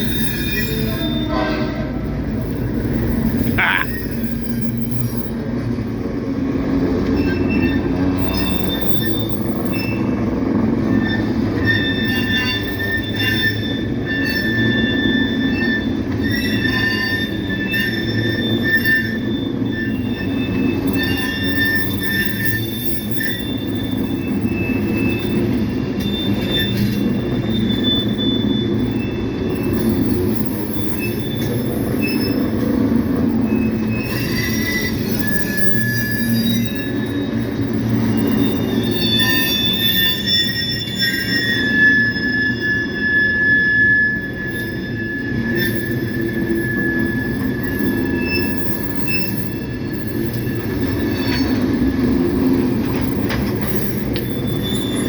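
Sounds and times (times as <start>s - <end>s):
high-pitched wheel squeal: 0.0s - 5.4s, 6.9s - 55.0s
train wheels rumbling on rail: 0.0s - 55.0s.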